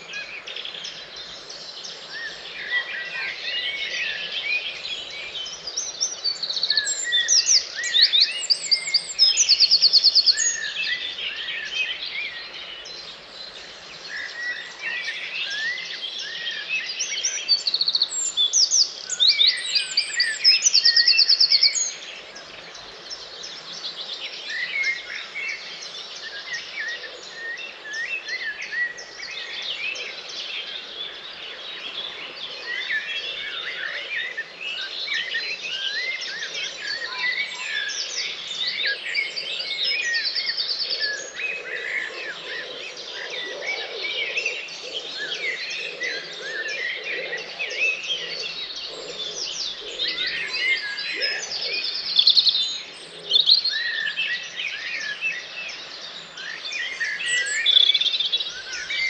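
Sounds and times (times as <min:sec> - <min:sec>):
loud bird song with fast trill: 0:00.0 - 0:59.0
songbirds singing: 0:00.0 - 0:59.0.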